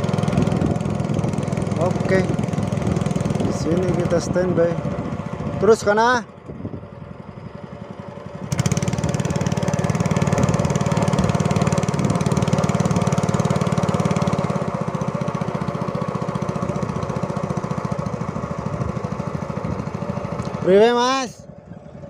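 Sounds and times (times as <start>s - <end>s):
small boat engine running: 0.0s - 22.0s.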